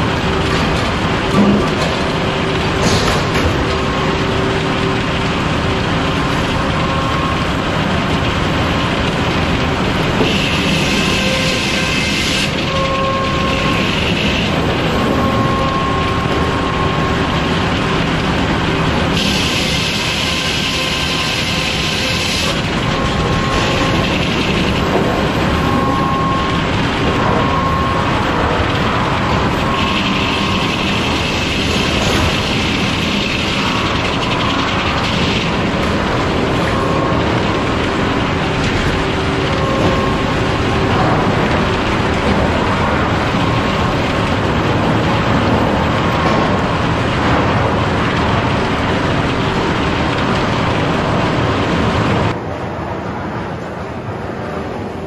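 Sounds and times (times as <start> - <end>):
high-pitched saw whine: 0.0 - 46.9
sawmill machinery running: 0.0 - 55.0.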